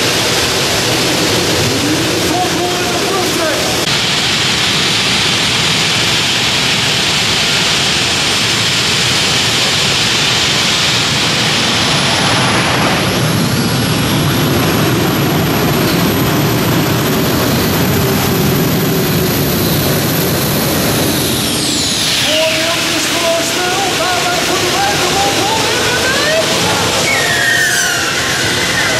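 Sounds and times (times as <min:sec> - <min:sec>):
high whine: 0:00.0 - 0:28.9
turboshaft engines roaring: 0:00.0 - 0:28.9.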